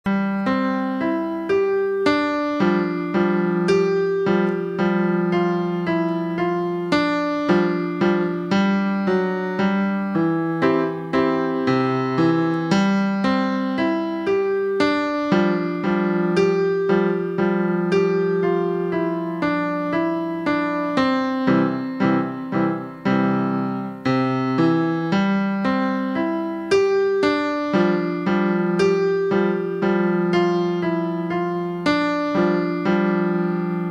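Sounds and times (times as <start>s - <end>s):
electronic keyboard piano melody: 0.0s - 33.9s.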